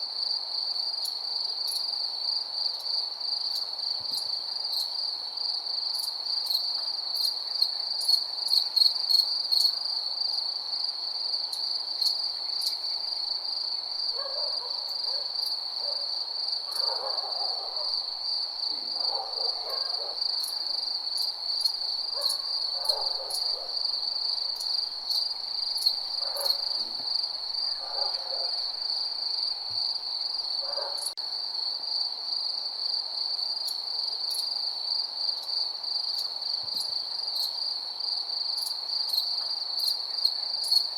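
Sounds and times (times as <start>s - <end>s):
crickets trilling: 0.2s - 40.9s.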